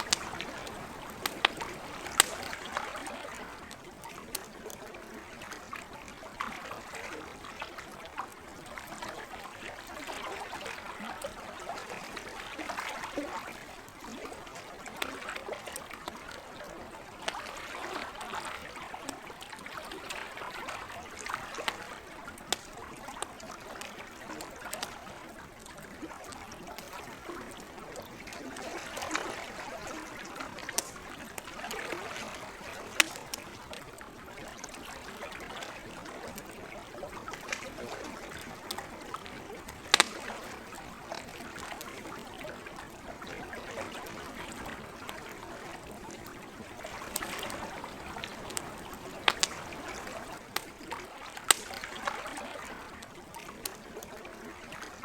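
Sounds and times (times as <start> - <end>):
campfire crackling and popping: 0.0 - 55.0
gentle lake water: 0.0 - 55.0.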